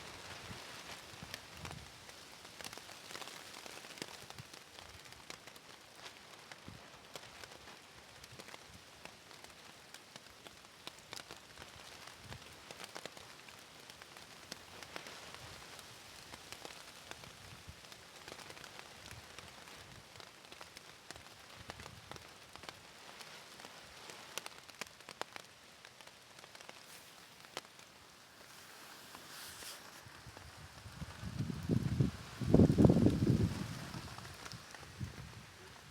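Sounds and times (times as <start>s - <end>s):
rain on a plastic sheet: 0.0s - 35.9s.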